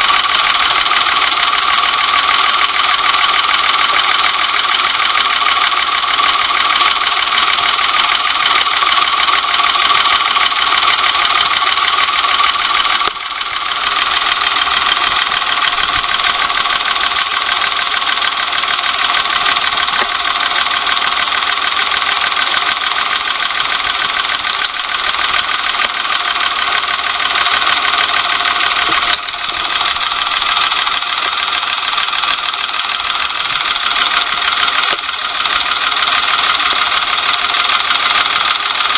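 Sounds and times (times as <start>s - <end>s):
engine running with abnormal noise: 0.0s - 38.9s.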